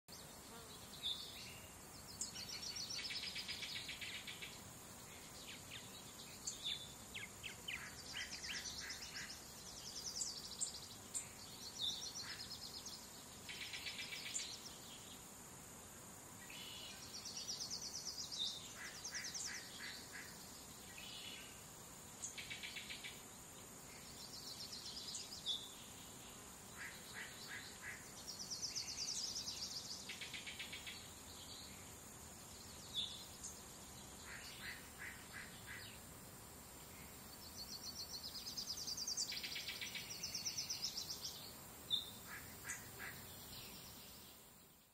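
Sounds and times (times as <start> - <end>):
faint steady hiss: 0.0 - 44.9
songbirds singing: 0.1 - 15.3, 16.4 - 44.9.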